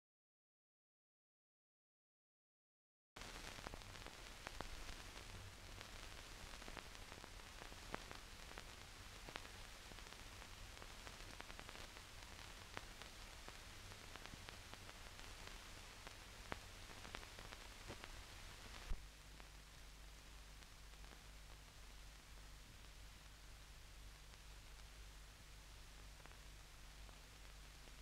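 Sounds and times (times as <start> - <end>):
film soundtrack hiss and crackle: 3.2 - 28.0.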